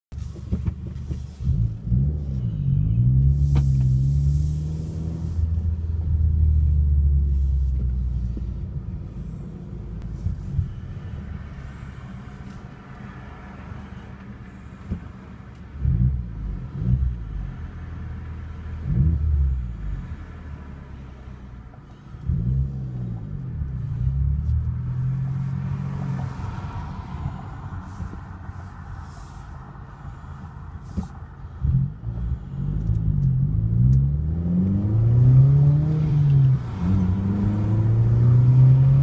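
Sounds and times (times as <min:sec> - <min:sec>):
car engine revving and droning: 0:00.2 - 0:39.0.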